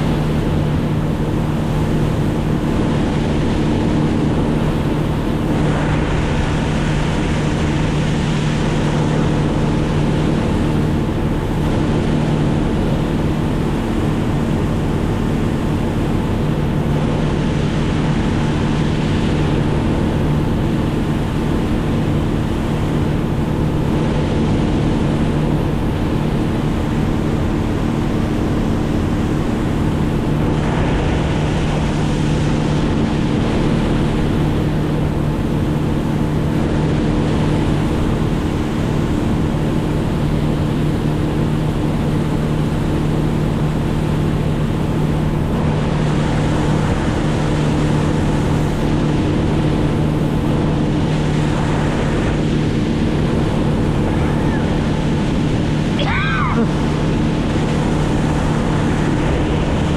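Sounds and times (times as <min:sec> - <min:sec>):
motorboat engine droning: 0:00.0 - 0:59.9
water rushing: 0:00.0 - 0:59.9.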